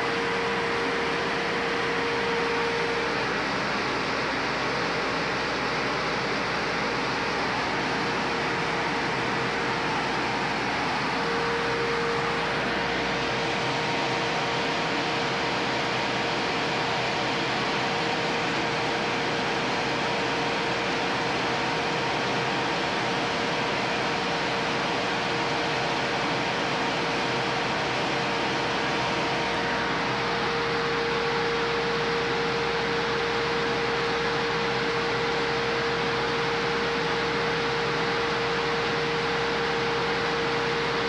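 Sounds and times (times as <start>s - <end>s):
constant machine hum: 0.0s - 41.0s
exhaust fan air rush: 0.0s - 41.0s.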